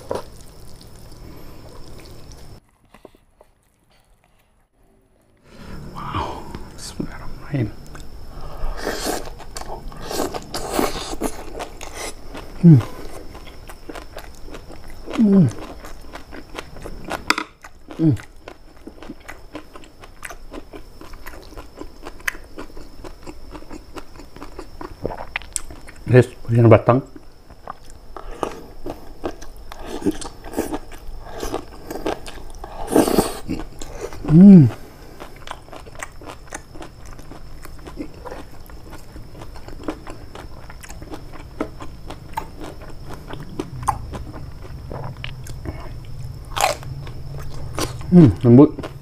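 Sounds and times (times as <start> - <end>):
close-up chewing: 0.0 - 4.8, 7.8 - 26.1, 27.1 - 49.0.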